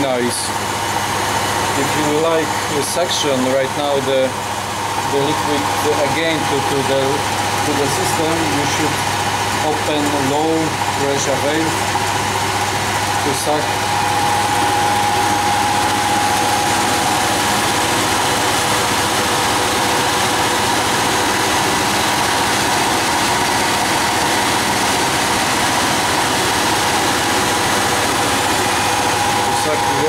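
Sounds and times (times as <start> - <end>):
air conditioning hum with whine: 0.0 - 30.0.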